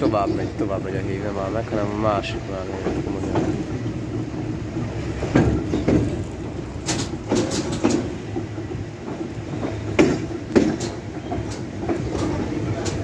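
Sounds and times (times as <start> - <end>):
low train hum: 0.0 - 13.0
train wheels clacking over rail joints: 1.6 - 13.0.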